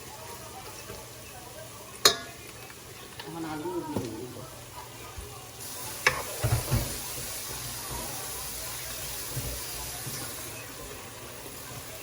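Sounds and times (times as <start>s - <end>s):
potatoes sizzling in a pan: 0.0s - 12.0s.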